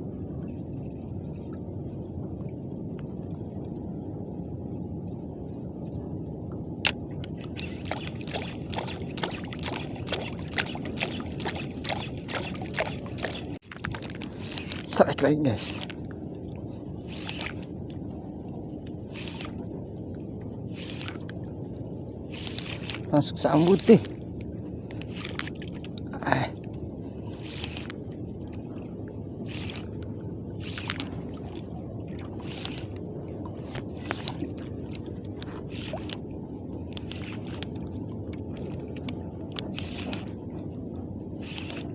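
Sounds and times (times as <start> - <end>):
boat engine low rumble: 0.0 - 41.9
water sloshing: 6.9 - 41.9.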